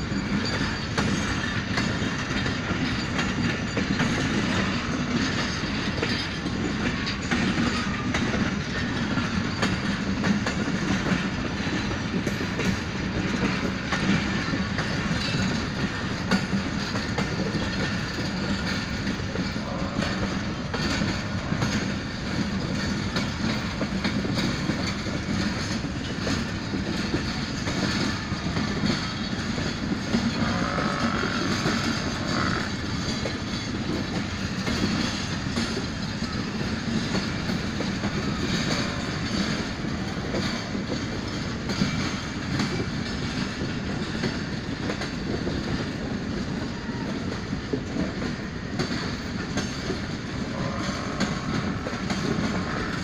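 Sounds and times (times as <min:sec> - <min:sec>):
train coaches rumbling past: 0:00.0 - 0:53.0
wheels clacking over rail joints: 0:00.0 - 0:53.0.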